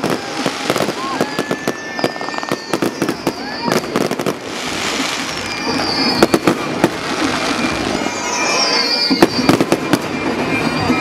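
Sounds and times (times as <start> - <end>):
fireworks bangs: 0.0 - 11.0
fireworks crackling: 0.0 - 11.0
high whistles sliding down: 0.6 - 11.0.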